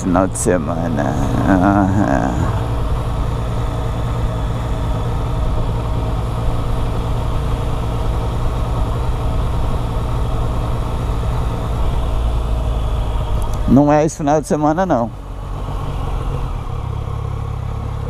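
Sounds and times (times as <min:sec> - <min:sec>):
motorcycle engine idling low: 0:00.0 - 0:18.0.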